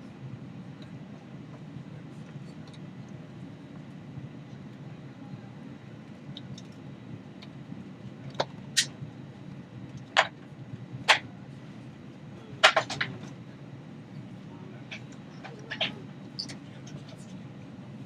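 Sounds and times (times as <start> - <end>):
low cabin hum: 0.0 - 18.0.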